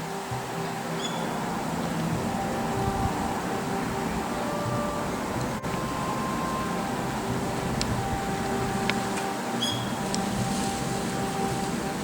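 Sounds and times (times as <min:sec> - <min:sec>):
background rumble: 0:00.0 - 0:12.0
faint held tones: 0:00.0 - 0:12.0.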